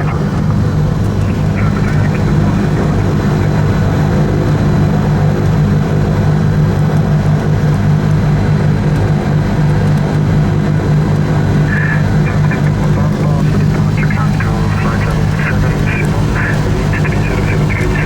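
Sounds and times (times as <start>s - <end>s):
aircraft engines and propellers droning: 0.0s - 18.0s.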